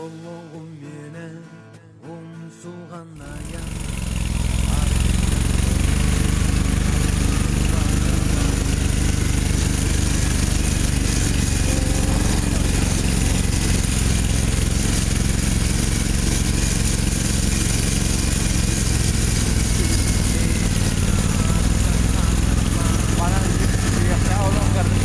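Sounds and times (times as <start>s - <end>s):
combustion engine running: 3.2s - 25.0s.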